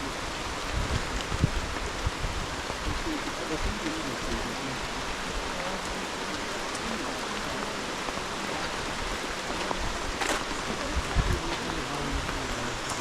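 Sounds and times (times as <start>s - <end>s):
rain falling: 0.0s - 13.0s
raindrop taps: 0.7s - 13.0s.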